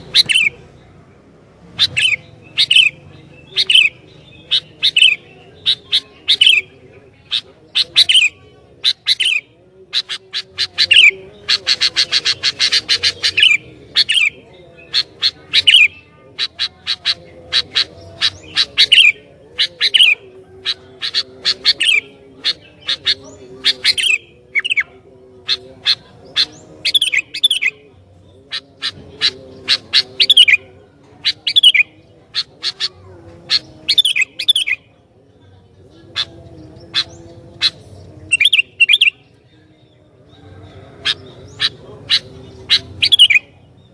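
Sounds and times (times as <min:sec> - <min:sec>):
bulbul calling in sharp notes: 0:00.0 - 0:00.8, 0:01.7 - 0:34.9, 0:40.2 - 0:43.8.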